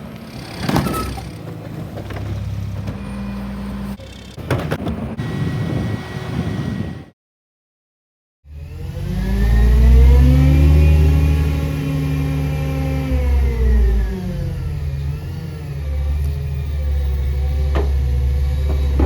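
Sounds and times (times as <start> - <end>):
garbage truck engine revving: 0.0 - 5.4, 8.5 - 19.0.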